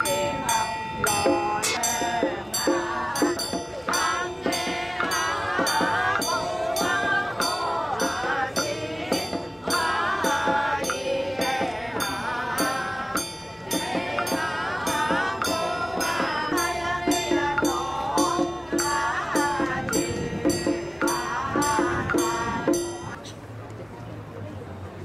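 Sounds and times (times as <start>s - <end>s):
wavering melody: 0.0s - 23.2s
crisp percussion ticks: 0.0s - 23.8s.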